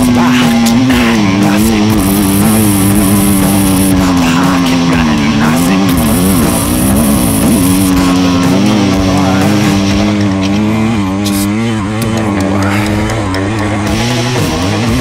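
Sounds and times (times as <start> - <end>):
dirt bike engine revving: 0.0 - 15.0
music playing: 0.0 - 15.0.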